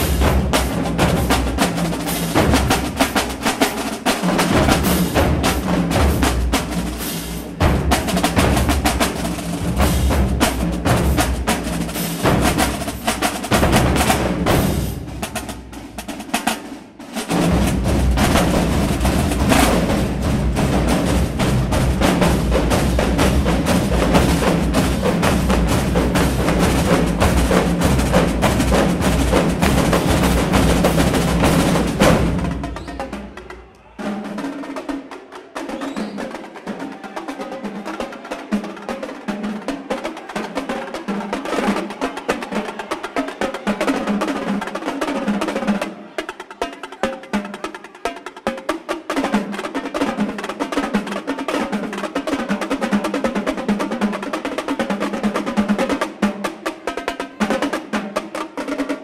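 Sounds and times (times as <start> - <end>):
marching drumline cadence: 0.0 - 59.0.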